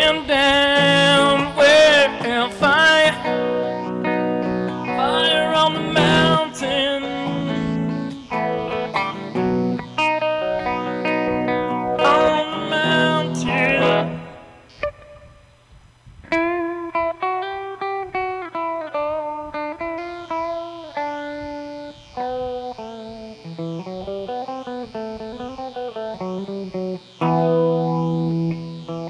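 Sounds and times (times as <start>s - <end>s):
electric guitar lead line: 0.0s - 29.0s.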